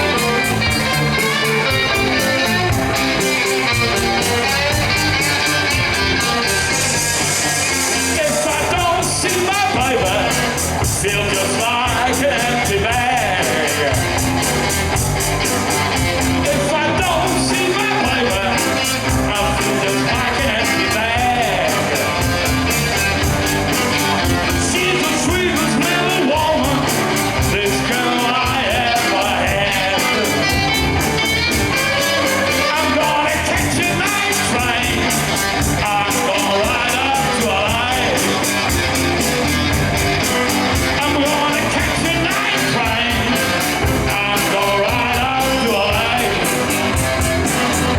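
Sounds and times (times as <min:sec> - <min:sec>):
blues band playing: 0:00.0 - 0:47.9
drums steady beat: 0:00.0 - 0:47.9
wavering lead guitar line: 0:00.0 - 0:47.9.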